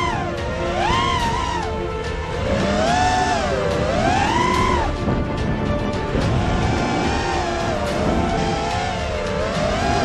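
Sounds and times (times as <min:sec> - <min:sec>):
background music: 0:00.0 - 0:10.0
drone motors and propellers whining: 0:00.0 - 0:10.0.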